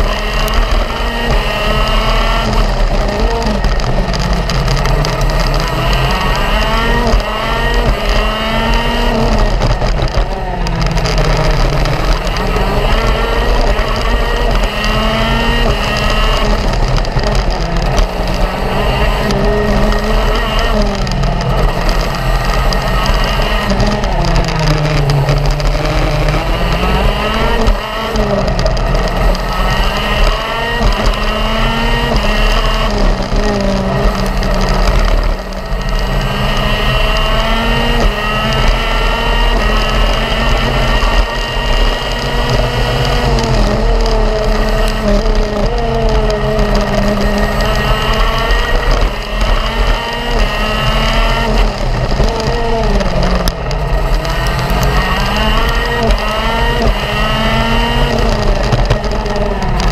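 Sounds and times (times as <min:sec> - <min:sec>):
go-kart engine revving high: 0:00.0 - 0:59.9
wind rumbling on microphone: 0:00.0 - 0:59.9.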